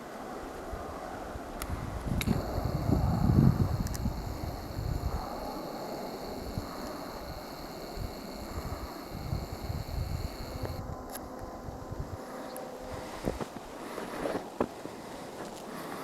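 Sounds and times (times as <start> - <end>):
wind buffeting microphone: 0.6 - 13.8.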